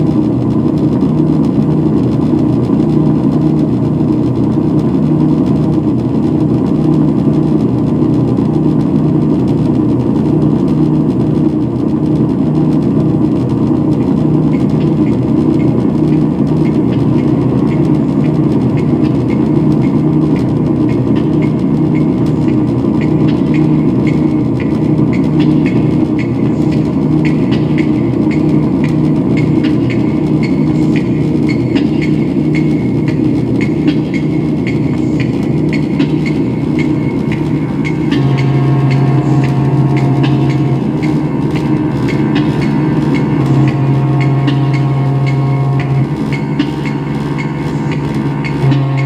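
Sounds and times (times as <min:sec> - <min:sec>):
electronic noise drone: 0:00.0 - 0:49.0.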